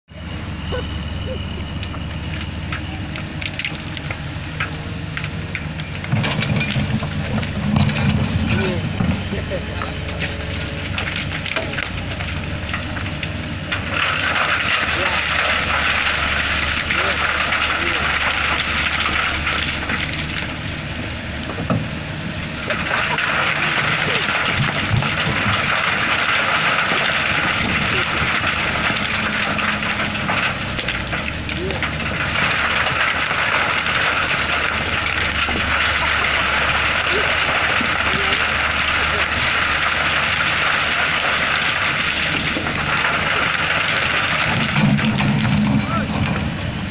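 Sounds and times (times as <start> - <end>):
excavator diesel engine rumbling: 0.0 - 46.9
sharp clicks and crackles: 1.8 - 46.7.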